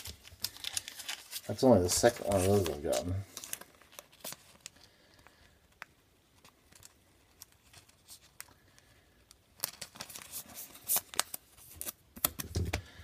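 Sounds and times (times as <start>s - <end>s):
cards and wrapper clicking and rustling: 0.0s - 13.0s.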